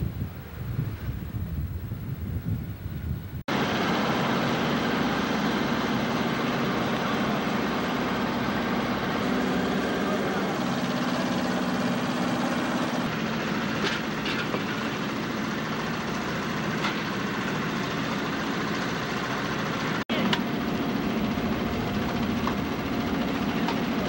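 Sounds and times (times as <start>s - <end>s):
machinery drone with low hum: 0.0s - 24.0s.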